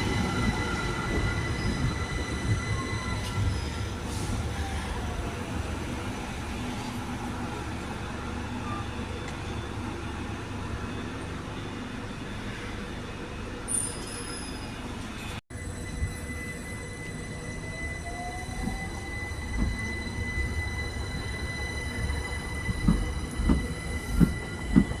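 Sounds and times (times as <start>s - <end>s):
train wheels rumbling on rails: 0.0s - 10.6s, 11.4s - 25.0s.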